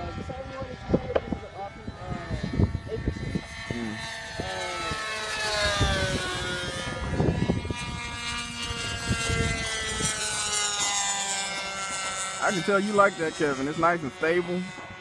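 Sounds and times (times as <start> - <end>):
model plane engines flying past: 0.0 - 15.0.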